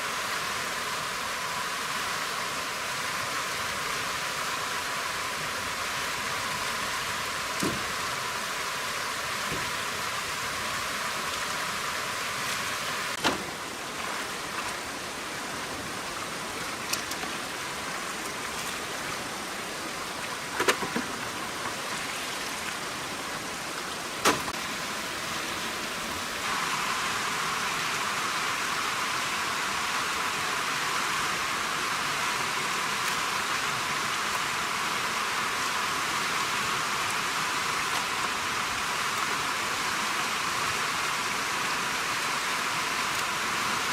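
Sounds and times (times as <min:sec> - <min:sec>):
steady rain-like hiss: 0:00.0 - 0:43.9.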